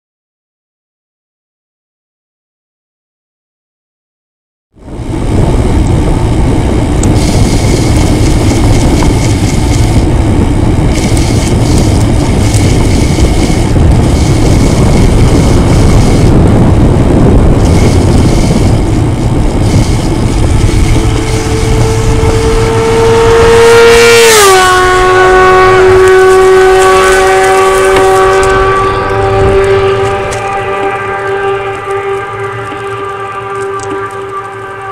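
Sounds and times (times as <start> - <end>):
road rumble: 4.7 - 34.9
wind noise: 4.8 - 34.9
motorcycle passing at speed: 4.9 - 34.9.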